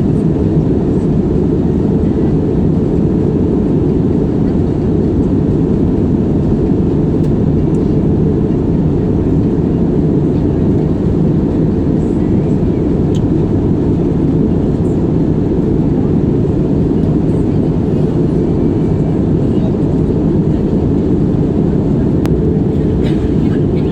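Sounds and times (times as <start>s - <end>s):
airliner rumbling: 0.0s - 23.9s.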